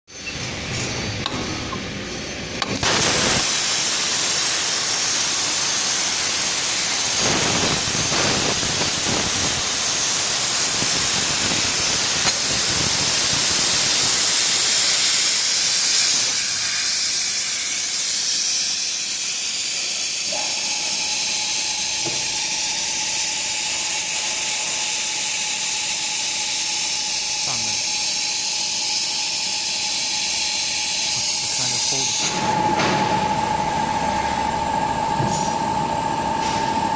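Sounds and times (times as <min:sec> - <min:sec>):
plasma cutter hissing: 0:02.6 - 0:32.6.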